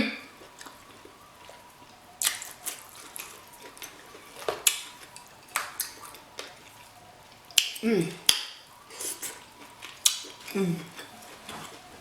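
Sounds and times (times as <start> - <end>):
close eating sounds: 0.0 - 12.0.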